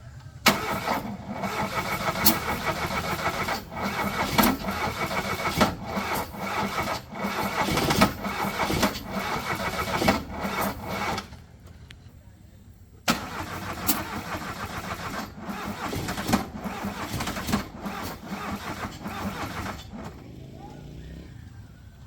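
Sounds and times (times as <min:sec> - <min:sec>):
loud engine running with whine: 0:00.4 - 0:11.8, 0:13.2 - 0:22.0.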